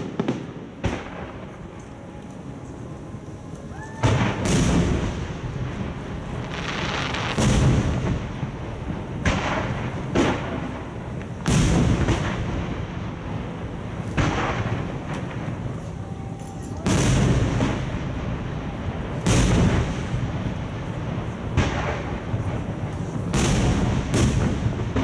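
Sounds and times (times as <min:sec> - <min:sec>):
fireworks booming: 0:00.0 - 0:25.0
fireworks rumble and crackle: 0:00.0 - 0:25.0.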